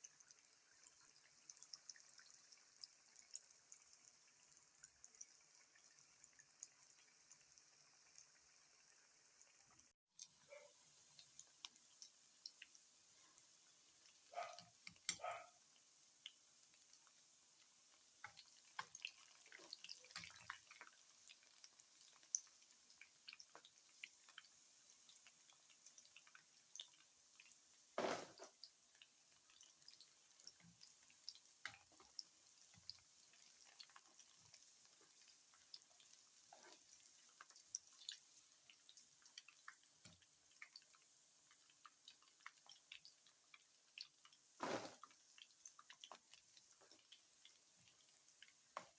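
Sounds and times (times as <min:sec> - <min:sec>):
frying in hot oil crackling: 0:00.0 - 0:48.9.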